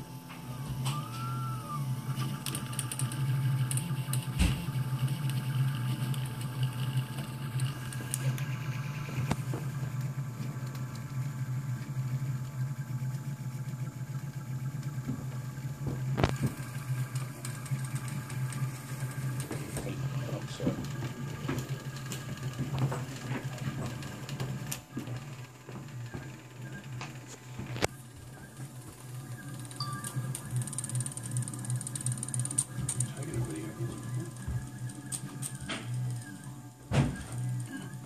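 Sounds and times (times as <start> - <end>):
stepper motors humming and whirring: 0.0 - 38.0.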